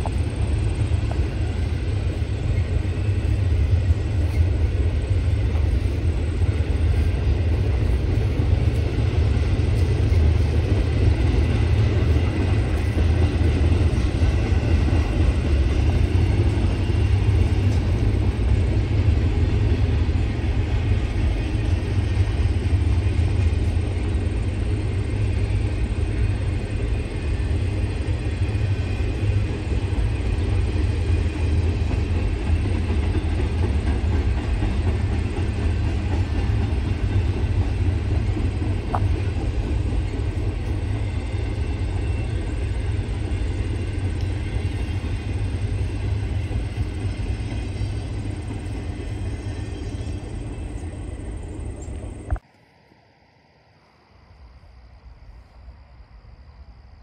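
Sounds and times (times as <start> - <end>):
freight train wheels rumbling on rails: 0.0 - 52.5.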